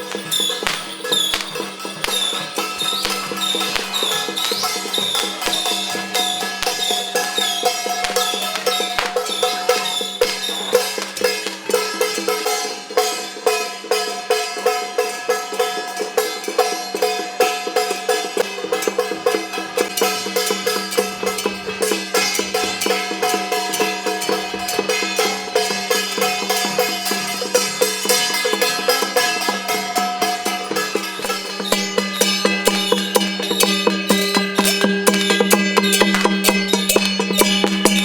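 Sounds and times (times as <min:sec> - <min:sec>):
wood block and drum beat: 0:00.0 - 0:38.0.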